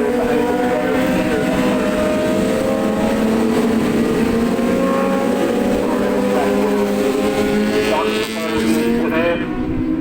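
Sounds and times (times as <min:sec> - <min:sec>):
racing motorcycle engines droning: 0:00.0 - 0:10.0.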